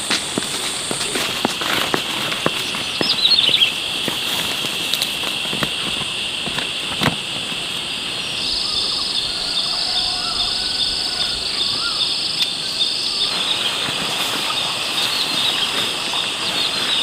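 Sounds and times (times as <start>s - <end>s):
insects chirring in chorus: 0.0s - 17.0s
pulsing insect call: 0.0s - 17.0s.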